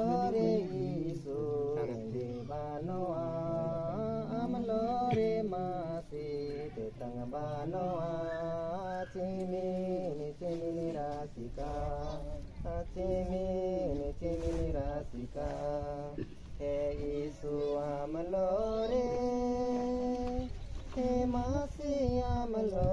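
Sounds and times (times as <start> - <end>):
voices singing chant-like song: 0.0 - 22.9.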